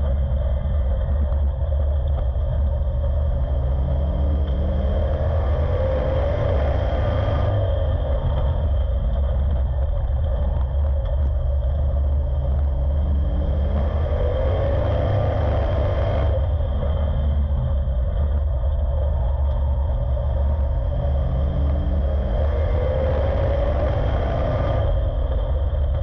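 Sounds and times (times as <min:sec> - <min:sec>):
race car engine rumble: 0:00.0 - 0:26.0.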